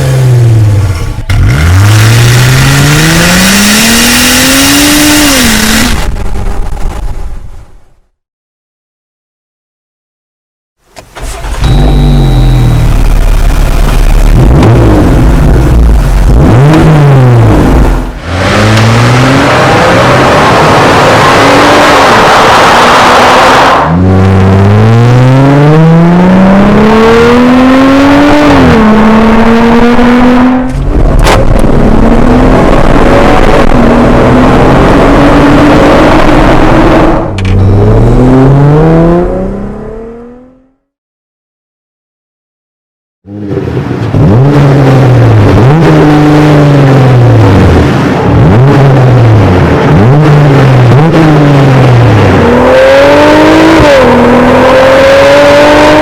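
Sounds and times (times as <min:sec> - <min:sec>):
car engine revving: 0:00.0 - 0:06.8, 0:10.9 - 0:40.8, 0:43.3 - 0:56.0.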